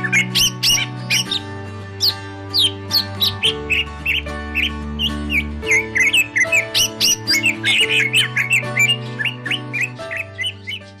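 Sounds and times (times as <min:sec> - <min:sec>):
background music with chords: 0:00.0 - 0:11.0
bird chirping and whistling: 0:00.0 - 0:11.0.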